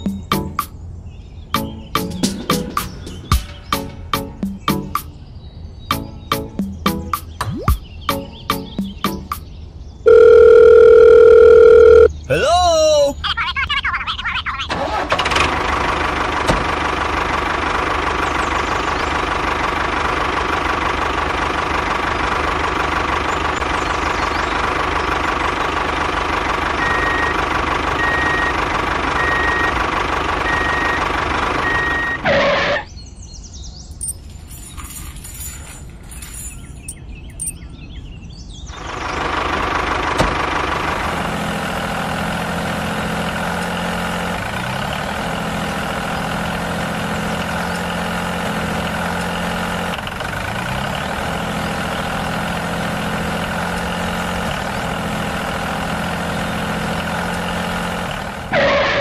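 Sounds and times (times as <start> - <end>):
low engine-like hum: 9.4 - 59.0.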